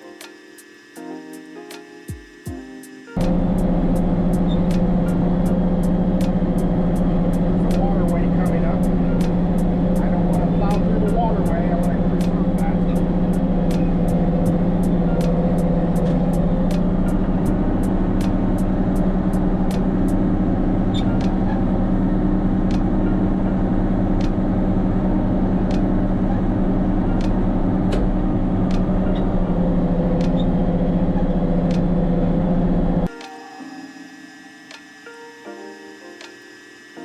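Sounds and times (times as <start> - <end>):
tractor diesel engine running: 3.2 - 33.1.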